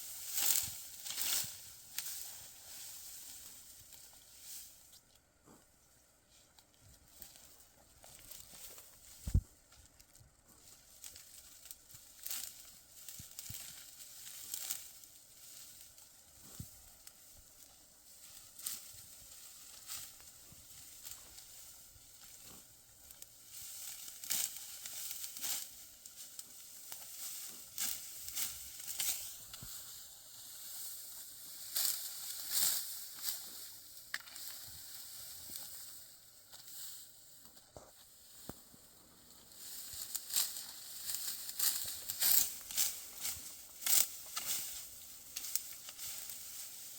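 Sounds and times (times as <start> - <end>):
dry crackling and rustling: 0.0 - 46.9
faint hiss: 0.0 - 46.9.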